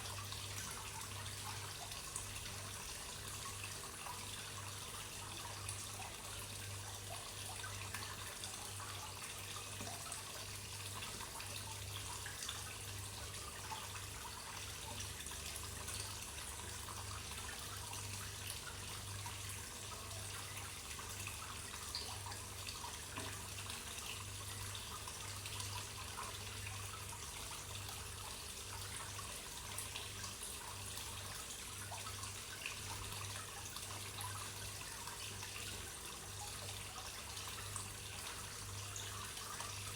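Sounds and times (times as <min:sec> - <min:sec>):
water trickling into a pond: 0:00.0 - 0:39.9.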